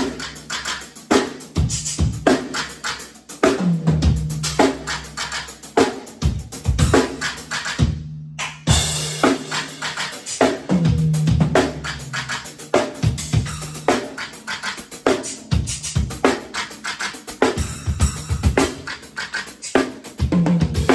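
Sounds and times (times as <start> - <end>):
drum kit playing: 0.0 - 20.9.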